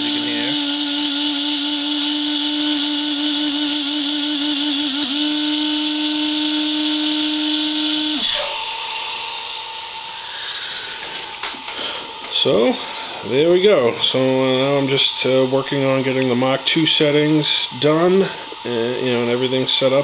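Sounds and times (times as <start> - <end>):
electric motor high whine: 0.0 - 20.0.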